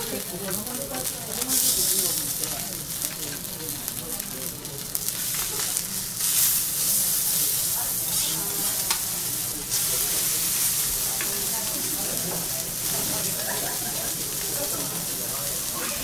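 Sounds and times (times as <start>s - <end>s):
fish sizzling on a griddle: 0.0s - 16.0s.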